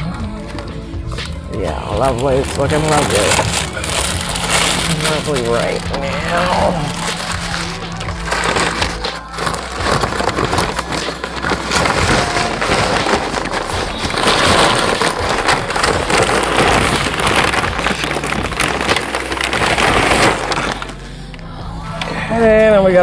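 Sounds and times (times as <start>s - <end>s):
paper wrappers crinkling: 0.0s - 21.2s.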